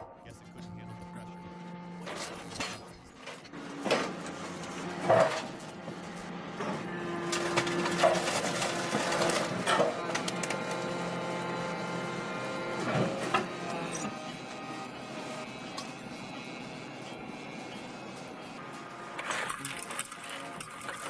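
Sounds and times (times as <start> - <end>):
wood chipper humming: 0.0 - 21.0.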